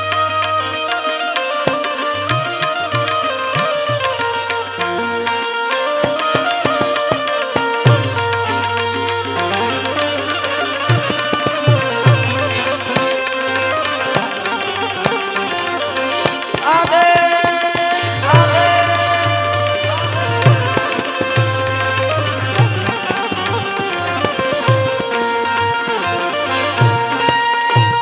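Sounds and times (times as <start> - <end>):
tabla drumming: 0.0 - 28.0.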